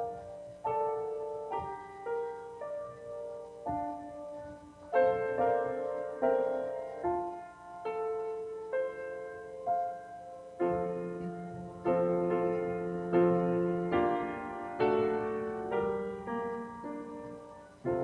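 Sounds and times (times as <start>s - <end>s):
slow quiet piano music: 0.0s - 18.0s.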